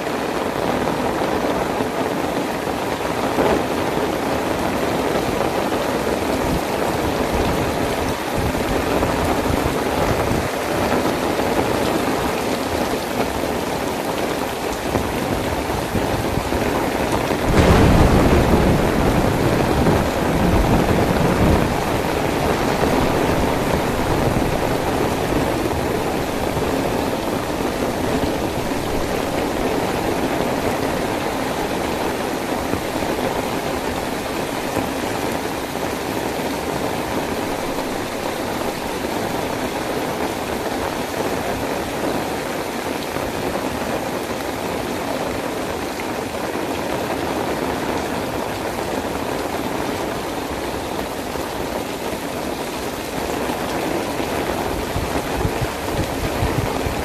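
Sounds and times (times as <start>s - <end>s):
heavy rain on road and foliage: 0.0s - 57.0s.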